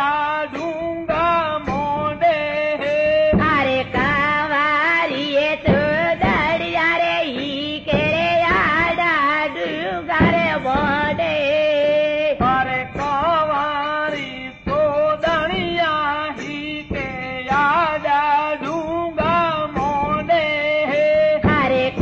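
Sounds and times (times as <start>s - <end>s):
person singing ornamented melody: 0.0s - 22.0s.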